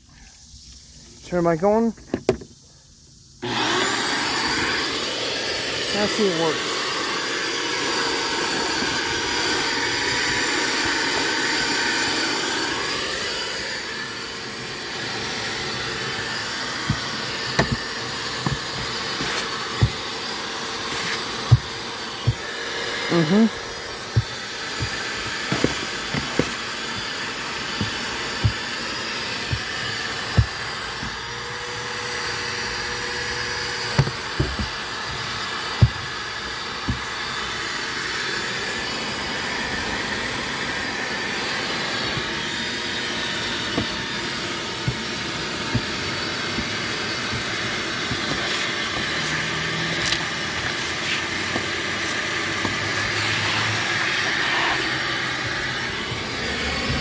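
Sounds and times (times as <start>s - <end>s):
shop vac sucking carpet: 3.4s - 57.0s.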